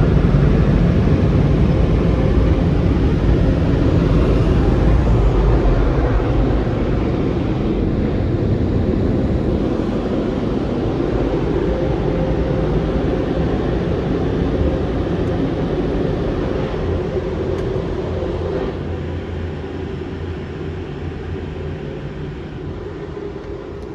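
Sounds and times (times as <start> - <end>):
car wash equipment roaring: 0.0 - 23.9.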